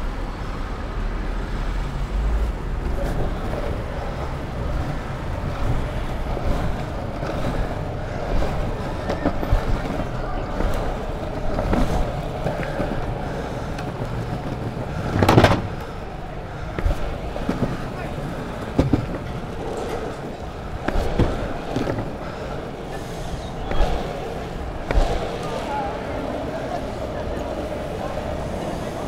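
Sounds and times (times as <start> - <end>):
skateboard wheels rolling on pavement: 0.0 - 29.0
skateboard clatter: 2.8 - 29.0.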